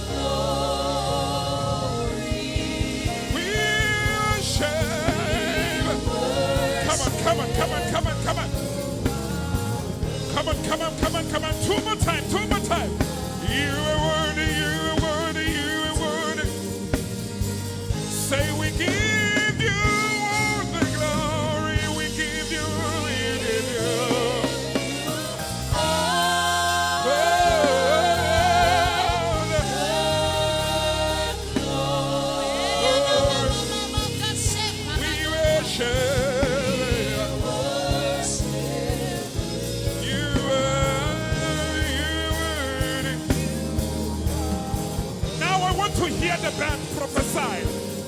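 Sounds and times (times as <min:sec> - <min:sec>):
people singing long notes: 0:00.0 - 0:17.5, 0:21.2 - 0:48.0
congregation singing: 0:00.0 - 0:48.0
gospel band playing: 0:00.0 - 0:48.0.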